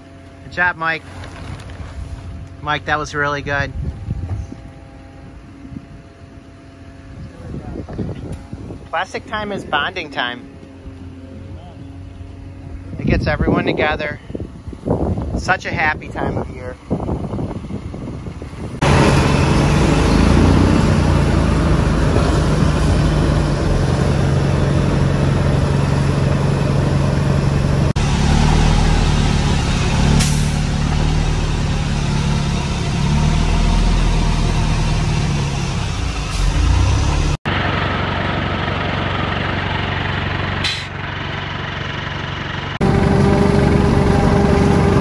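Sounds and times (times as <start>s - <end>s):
diesel engines running under load: 0.0s - 45.0s.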